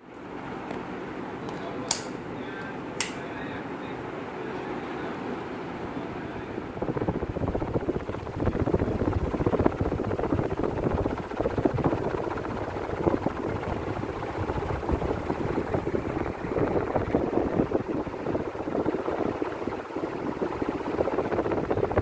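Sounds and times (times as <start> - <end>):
ceiling fans rushing air: 0.0 - 22.0.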